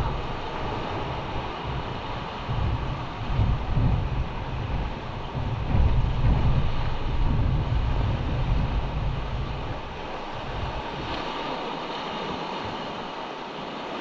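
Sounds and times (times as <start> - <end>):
surf washing over rocks: 0.0 - 14.0
wind buffeting microphone: 0.0 - 14.0.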